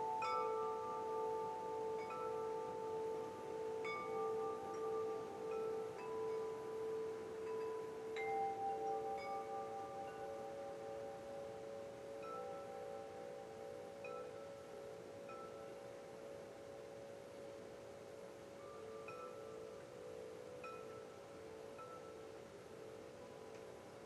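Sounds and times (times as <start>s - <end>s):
wind chimes ringing: 0.0s - 24.0s.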